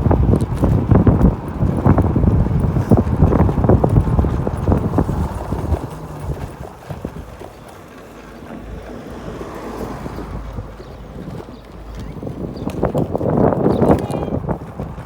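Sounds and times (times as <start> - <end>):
electric scooter rumbling: 0.0 - 15.0
wind on microphone: 0.0 - 15.0.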